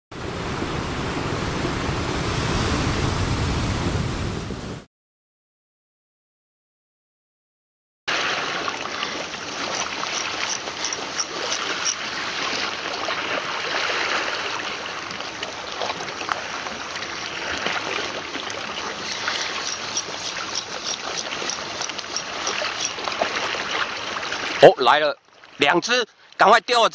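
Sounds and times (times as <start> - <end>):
seawater washing over shoreline: 0.1 - 4.9, 8.1 - 25.8.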